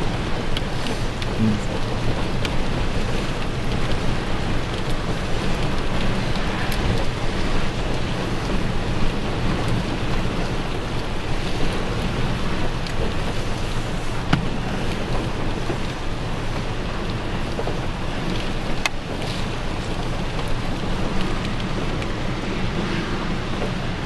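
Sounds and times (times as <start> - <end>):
rough lake surf: 0.0 - 24.0
wind buffeting microphone: 0.0 - 24.0.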